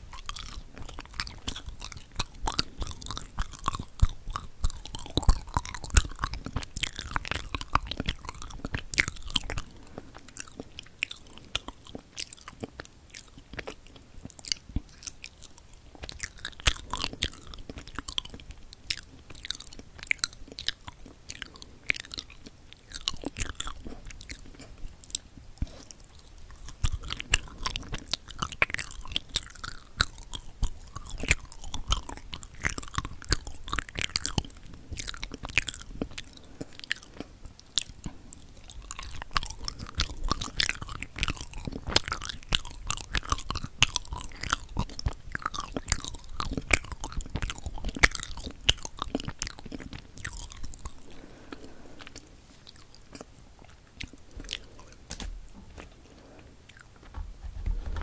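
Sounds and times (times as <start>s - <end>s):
chewing with mouth clicks: 0.0s - 57.1s.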